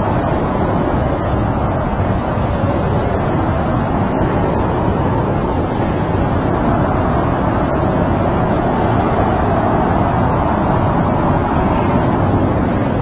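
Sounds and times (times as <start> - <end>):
snowstorm wind blowing: 0.0 - 13.0.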